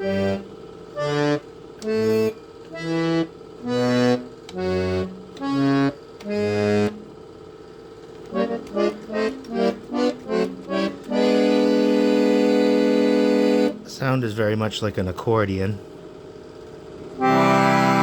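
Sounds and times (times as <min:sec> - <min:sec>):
chord organ playing chords: 0:00.0 - 0:14.7, 0:17.2 - 0:18.0
organ fan hum: 0:00.0 - 0:18.0.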